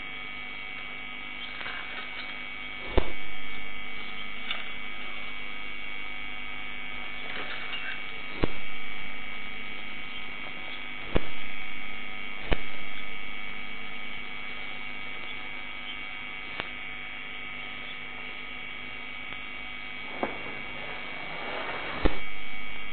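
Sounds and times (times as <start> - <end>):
electrical hum: 0.0 - 22.9
high whining tones: 0.0 - 22.9.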